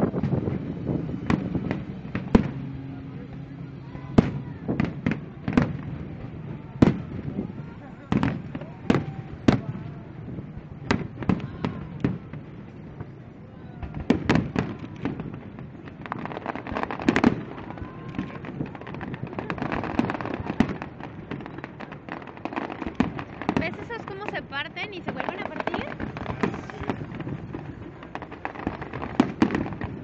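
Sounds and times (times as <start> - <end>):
fireworks bangs and pops: 0.0 - 30.0
fireworks crackling: 0.0 - 30.0.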